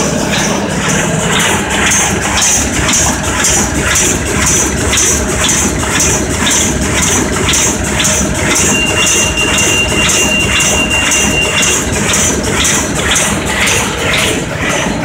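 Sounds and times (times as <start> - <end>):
die-cutting machine drone: 0.0 - 15.0
machine strokes clattering: 0.0 - 15.0.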